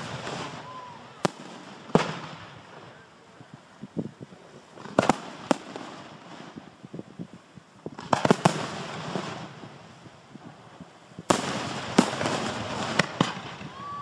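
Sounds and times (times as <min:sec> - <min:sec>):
fireworks bangs: 0:00.0 - 0:07.2, 0:07.8 - 0:14.0
rough hiss: 0:00.0 - 0:14.0.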